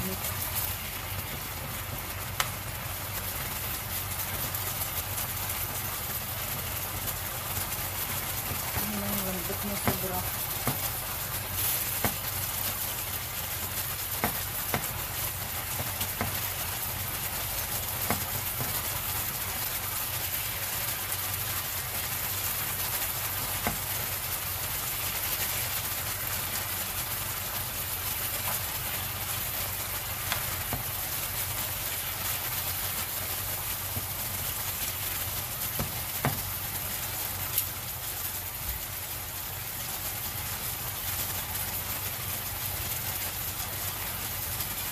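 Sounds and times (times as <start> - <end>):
meat sizzling in a frying pan: 0.0 - 44.9.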